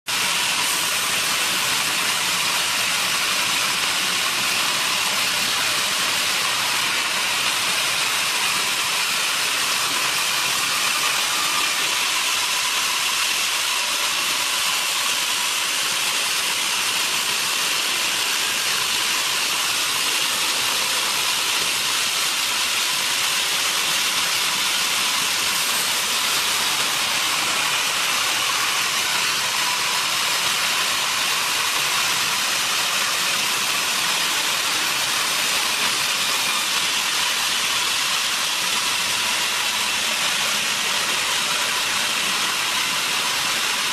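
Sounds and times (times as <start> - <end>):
band saw cutting timber: 0.1 - 43.9.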